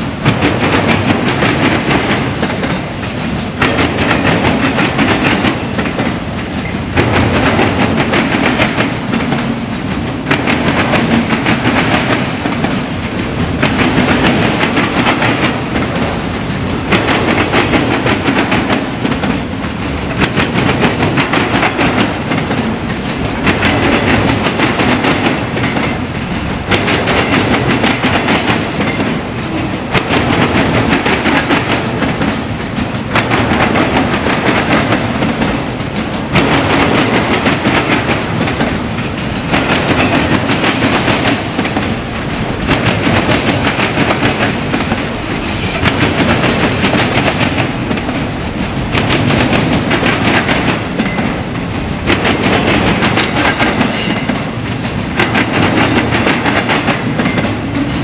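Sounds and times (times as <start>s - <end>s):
freight train cars rolling past: 0.0s - 58.0s
wheels clacking over rail joints: 0.0s - 58.0s.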